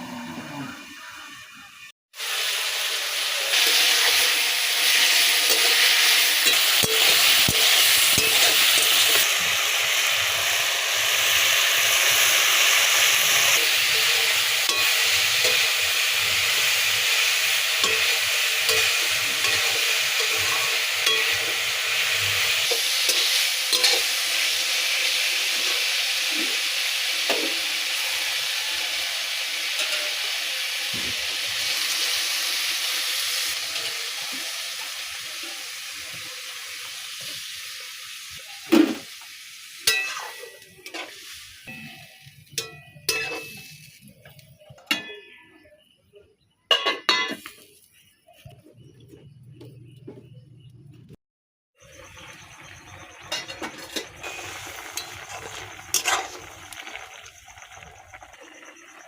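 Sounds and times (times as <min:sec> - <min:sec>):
food sizzling in oil: 0:02.1 - 0:46.0, 0:46.7 - 0:48.9, 0:51.8 - 0:59.0.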